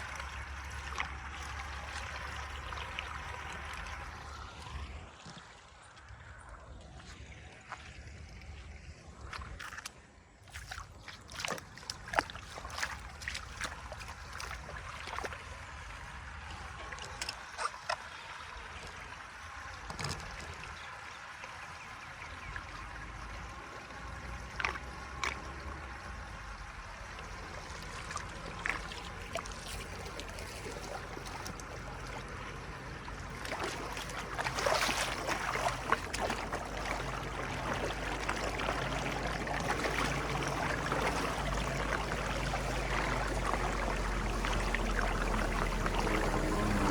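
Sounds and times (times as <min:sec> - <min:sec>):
water running and gurgling: 0:00.0 - 0:46.9.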